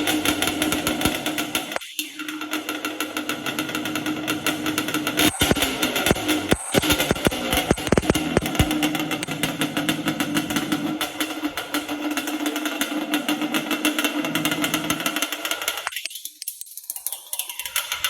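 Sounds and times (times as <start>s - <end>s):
two-stroke engine idling: 0.0s - 15.9s.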